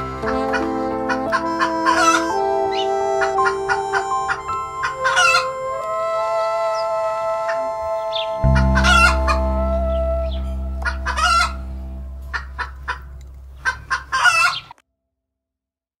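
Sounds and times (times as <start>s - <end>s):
low sustained musical note: 0.0s - 13.7s.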